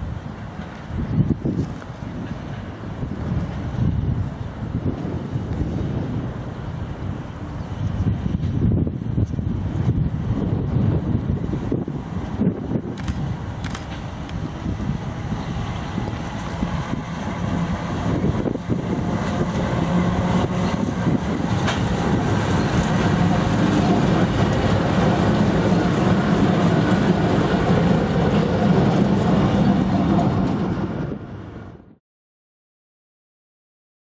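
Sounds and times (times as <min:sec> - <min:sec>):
wheel and rail noise: 0:00.0 - 0:31.9
diesel locomotive engines droning: 0:00.0 - 0:32.0.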